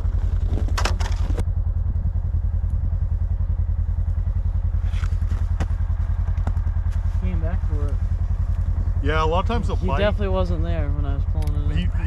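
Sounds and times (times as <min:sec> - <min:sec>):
snowmobile engine idling: 0:00.0 - 0:12.0.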